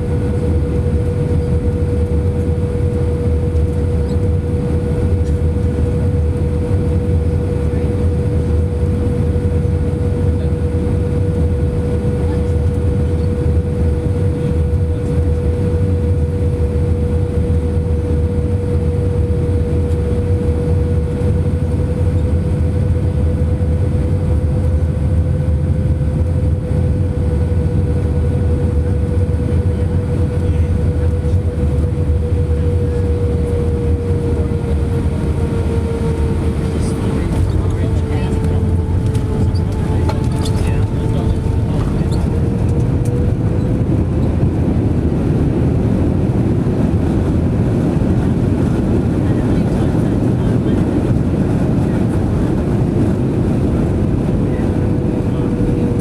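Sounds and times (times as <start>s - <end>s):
airliner cabin engine roar: 0.0s - 56.0s
steady whine: 0.0s - 56.0s.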